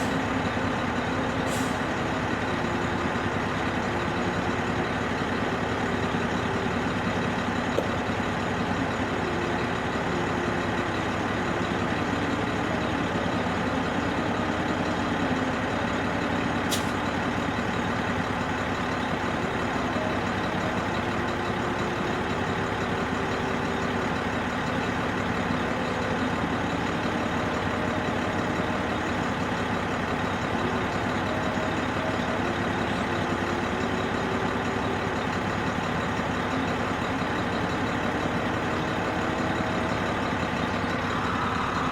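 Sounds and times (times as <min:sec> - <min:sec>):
large diesel engine running: 0:00.0 - 0:41.9.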